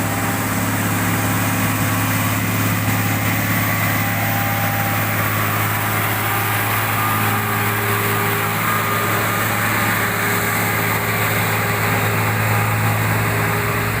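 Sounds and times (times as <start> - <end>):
truck diesel engine humming: 0.0 - 14.0.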